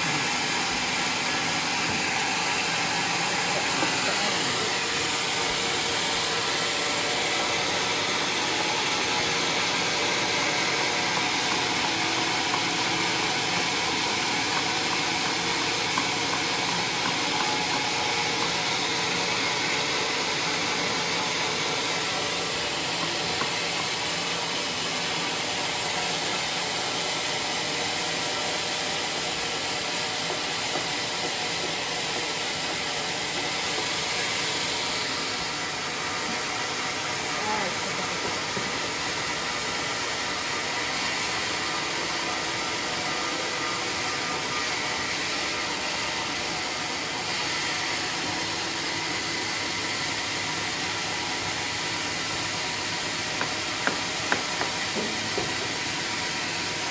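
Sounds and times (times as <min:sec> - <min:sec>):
saw cutting timber: 0:00.0 - 0:56.9.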